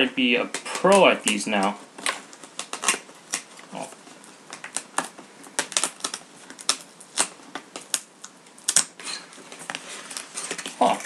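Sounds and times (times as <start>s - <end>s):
cardboard snaps: 0.5s - 11.0s.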